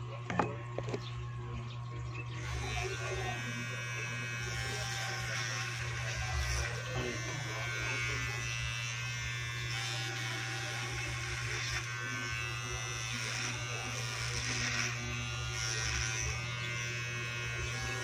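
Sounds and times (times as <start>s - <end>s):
electric hair clippers buzzing: 0.0s - 18.0s.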